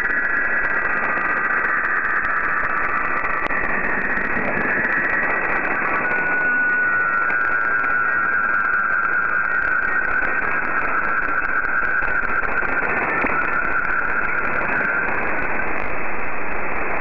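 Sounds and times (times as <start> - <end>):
radio static: 0.0 - 17.0
whistling data tones: 0.0 - 17.0
steady whistle: 1.4 - 15.8.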